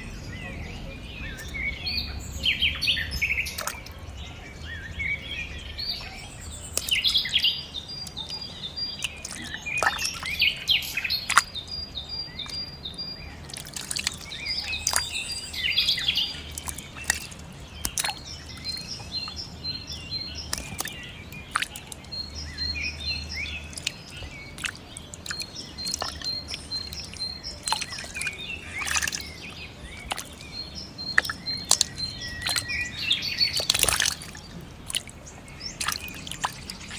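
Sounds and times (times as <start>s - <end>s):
birds chirping and trilling: 0.0s - 36.9s.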